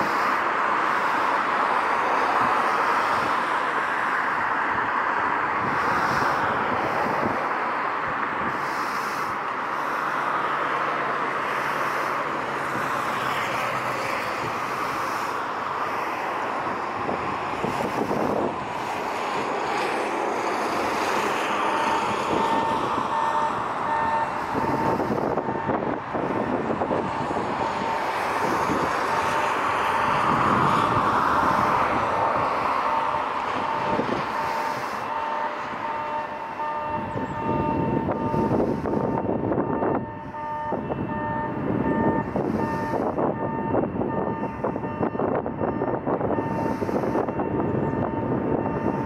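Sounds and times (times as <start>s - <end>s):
jet engines: 0.0s - 49.0s
wind on microphone: 4.3s - 9.4s, 12.0s - 49.0s.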